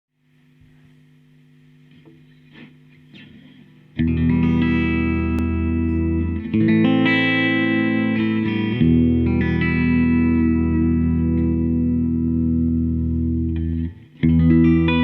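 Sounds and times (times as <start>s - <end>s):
amp hum: 0.2s - 15.0s
electric guitar chords ringing: 1.9s - 15.0s.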